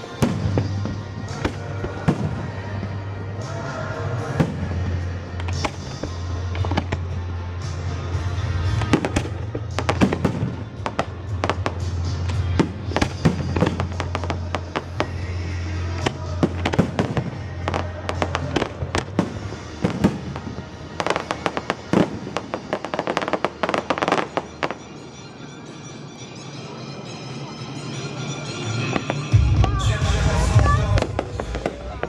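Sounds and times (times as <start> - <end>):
fireworks bangs and crackles: 0.0 - 25.7, 27.7 - 32.0
background music: 0.0 - 32.0.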